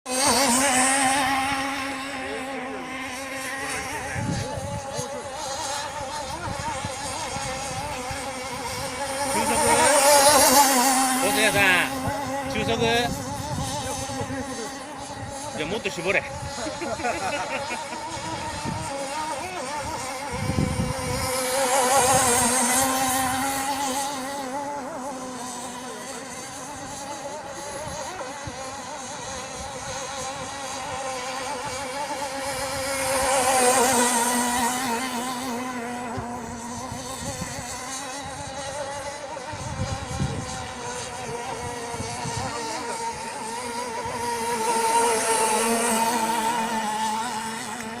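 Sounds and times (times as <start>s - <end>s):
model boat motor whining: 0.0s - 48.0s.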